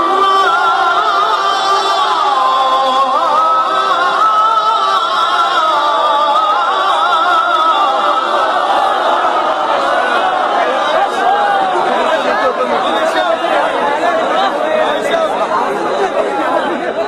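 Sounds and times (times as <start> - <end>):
person reciting melodically: 0.0 - 15.3.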